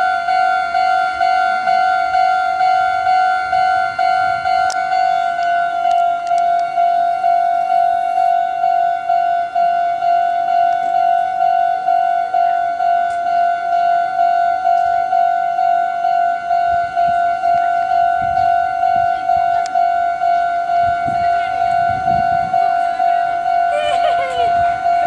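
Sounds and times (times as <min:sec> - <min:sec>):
electric train rumble: 0:00.0 - 0:25.0
level-crossing alarm dinging: 0:00.0 - 0:25.0.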